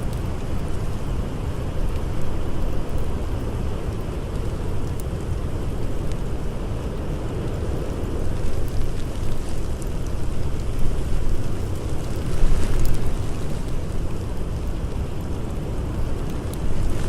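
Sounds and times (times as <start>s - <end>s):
blizzard wind howling: 0.0s - 17.0s
campfire crackling: 0.0s - 17.0s.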